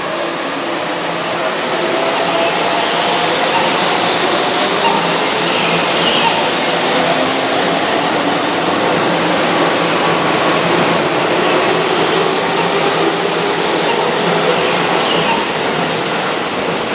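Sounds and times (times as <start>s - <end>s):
train wheels rushing on rail: 0.0s - 16.9s.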